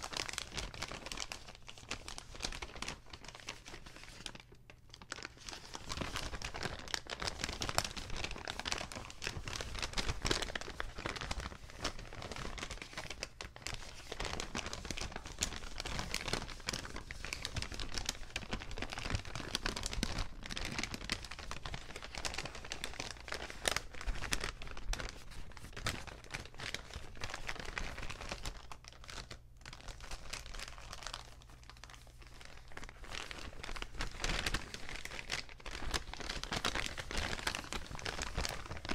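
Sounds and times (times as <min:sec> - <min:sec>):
paper bags crinkling: 0:00.0 - 0:38.9.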